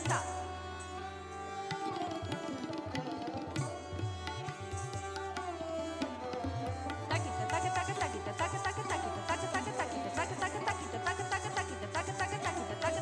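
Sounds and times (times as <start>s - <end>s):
tabla drumming: 0.0s - 0.4s, 1.7s - 13.0s
string melody with pitch glides: 0.0s - 13.0s.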